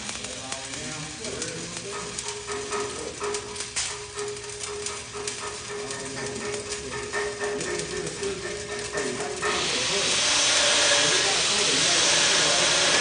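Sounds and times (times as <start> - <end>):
arc welding crackle: 0.0 - 13.0.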